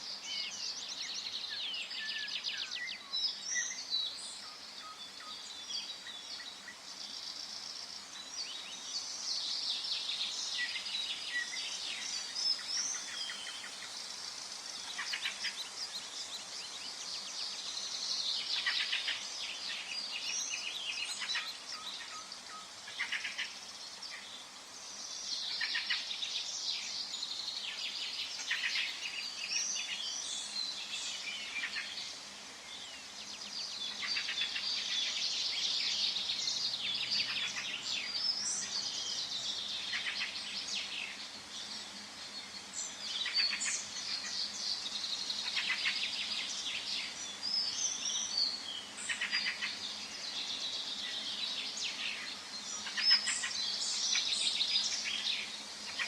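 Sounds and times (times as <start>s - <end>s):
faint steady hiss: 0.0s - 56.0s
songbirds chirping and trilling: 0.0s - 56.0s.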